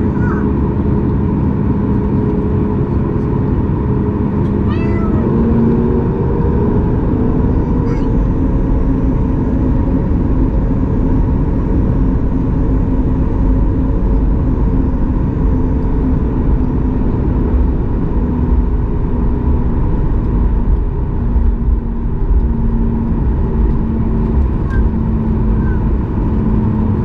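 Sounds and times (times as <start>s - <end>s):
jet engines heard from cabin: 0.0s - 27.0s.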